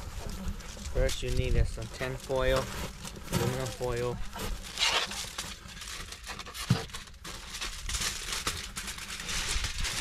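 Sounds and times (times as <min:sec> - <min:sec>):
aluminum foil crinkling: 0:00.0 - 0:10.0.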